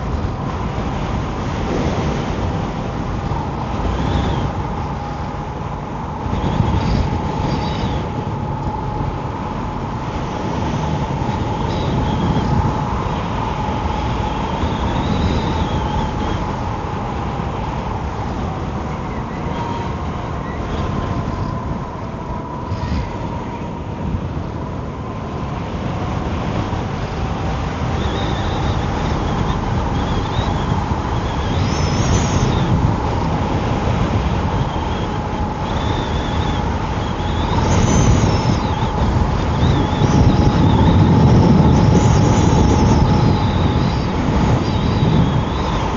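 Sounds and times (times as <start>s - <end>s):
electric scooter motor whine: 0.0s - 45.9s
wind buffeting microphone: 0.0s - 45.9s.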